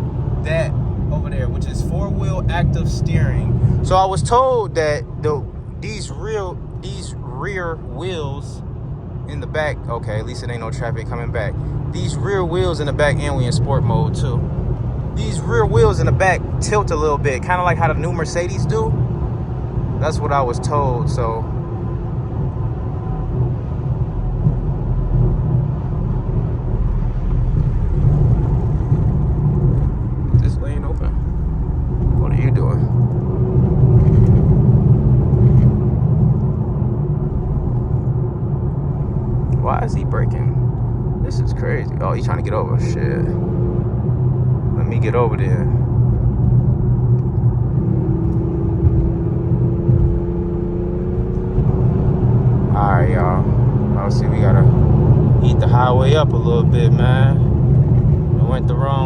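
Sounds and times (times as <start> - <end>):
car engine rumble: 0.0 - 59.0
tyre road noise: 0.0 - 59.0.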